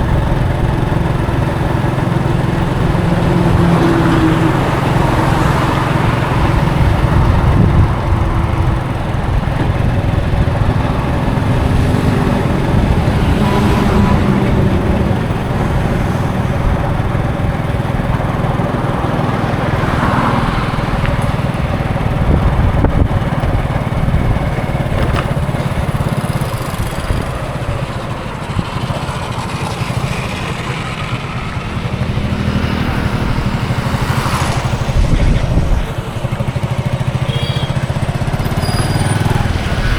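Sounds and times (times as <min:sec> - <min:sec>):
bus engine rumble: 0:00.0 - 0:39.9
road noise: 0:00.0 - 0:39.9.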